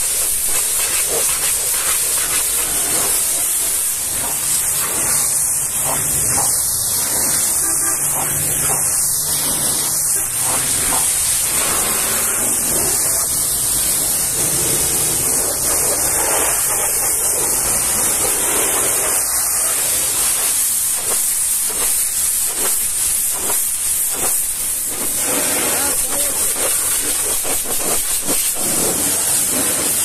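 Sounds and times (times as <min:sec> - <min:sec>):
pressure washer spraying metal: 0:00.0 - 0:30.0.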